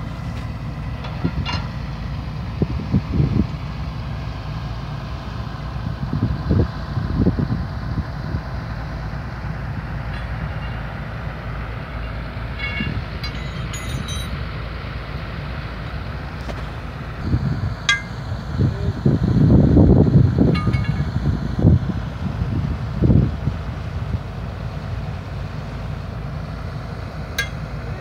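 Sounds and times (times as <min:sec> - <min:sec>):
diesel engine rumble: 0:00.0 - 0:28.0.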